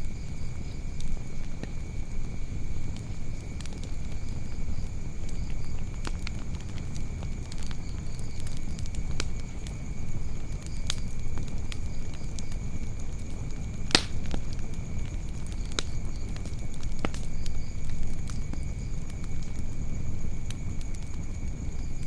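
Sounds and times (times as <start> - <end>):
fire crackles and pops: 0.0 - 22.0
rumble of flames: 0.0 - 22.0.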